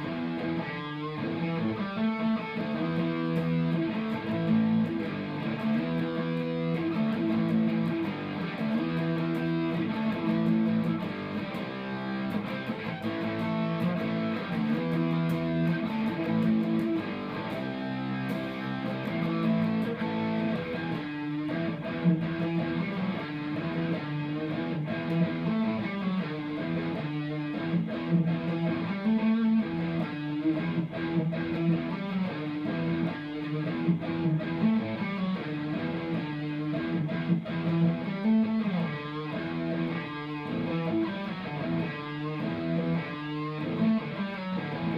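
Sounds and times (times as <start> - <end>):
electric guitar chords and notes: 0.0 - 44.9.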